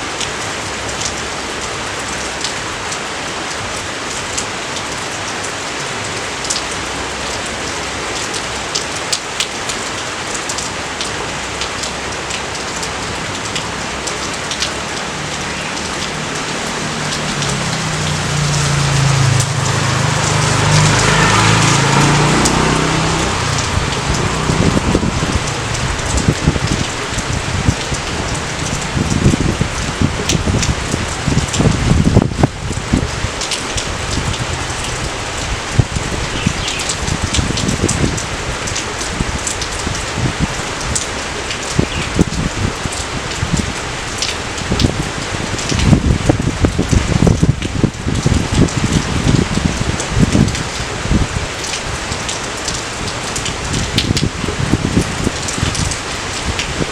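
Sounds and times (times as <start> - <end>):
raindrops ticking close by: 0.0 - 56.9
steady rain falling: 0.0 - 56.9.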